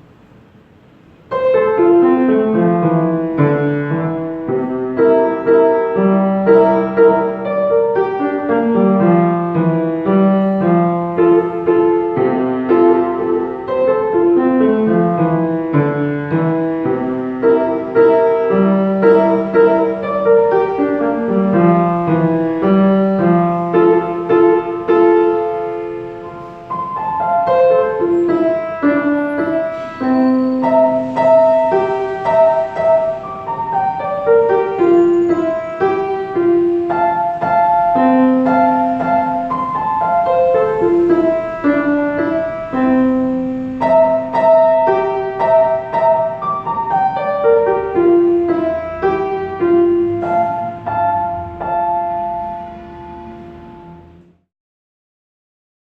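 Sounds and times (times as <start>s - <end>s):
solo piano melody: 0.0s - 54.5s.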